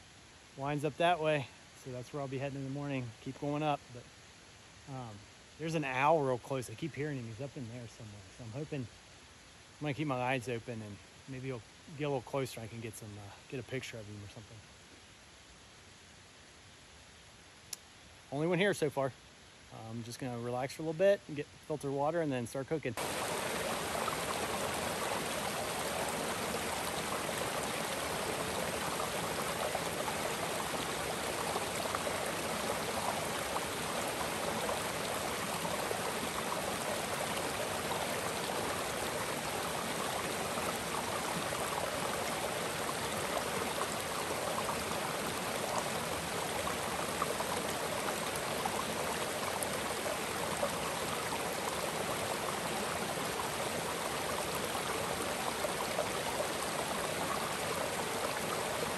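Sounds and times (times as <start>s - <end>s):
creek water rushing: 0.0s - 15.1s, 18.1s - 58.9s.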